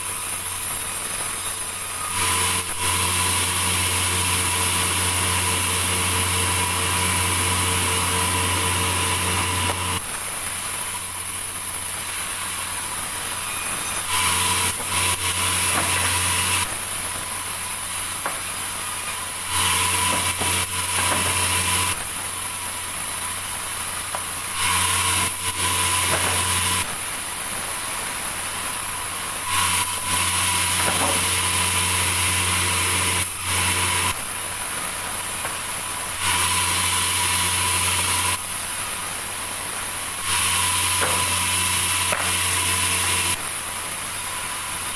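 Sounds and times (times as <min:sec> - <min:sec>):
sawmill machinery cutting timber: 0:00.0 - 0:44.9.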